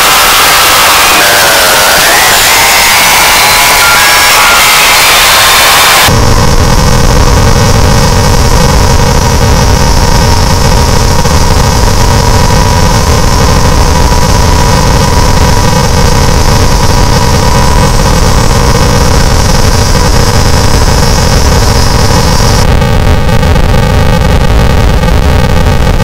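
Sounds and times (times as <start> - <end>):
distorted electronic noise: 0.0 - 26.0.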